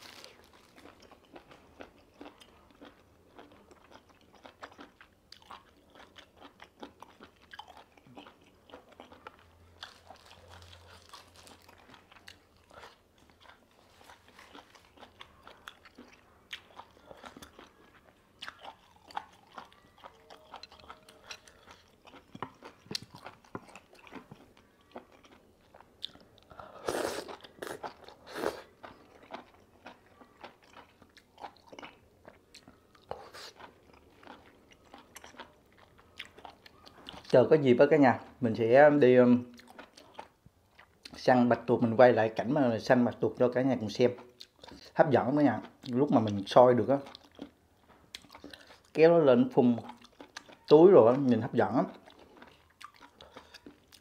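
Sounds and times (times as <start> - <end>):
chewing crunchy food: 0.0 - 37.6, 39.4 - 41.3, 43.9 - 54.0.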